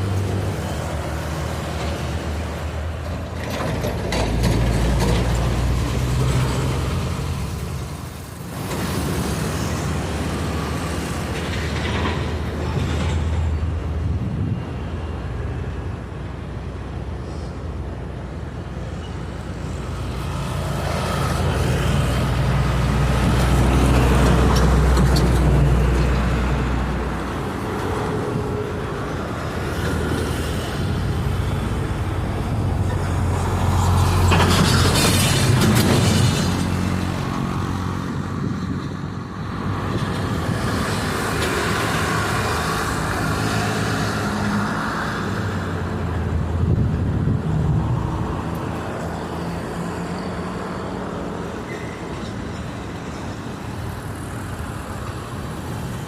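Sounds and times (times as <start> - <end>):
train wagons rumbling past: 0.0 - 56.0.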